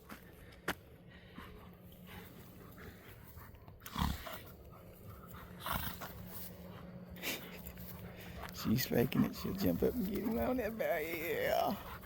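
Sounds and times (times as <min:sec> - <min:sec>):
dogs play-fighting and panting: 0:00.0 - 0:12.0.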